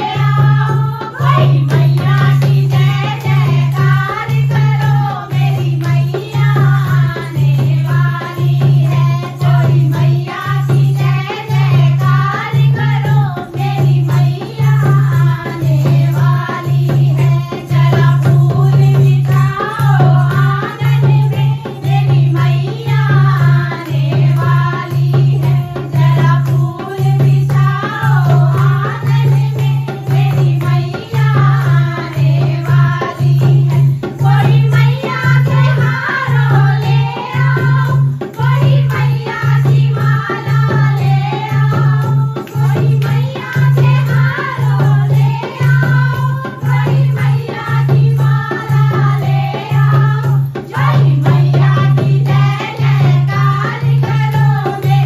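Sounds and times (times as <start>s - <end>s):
deep drum beat: 0.0s - 11.0s, 11.6s - 55.0s
devotional singing: 0.0s - 55.0s.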